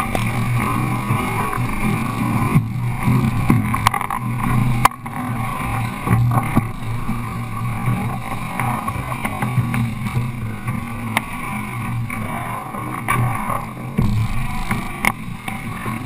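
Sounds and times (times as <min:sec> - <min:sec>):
rushing wind and water: 0:00.0 - 0:16.0.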